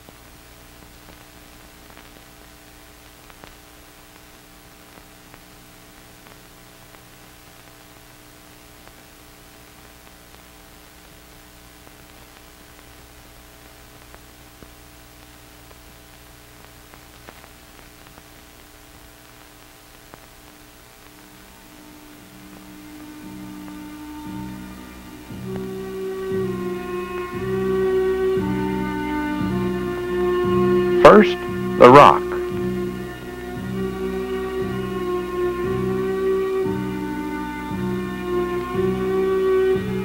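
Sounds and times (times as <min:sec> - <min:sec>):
electrical hum and hiss: 0:00.0 - 0:40.0.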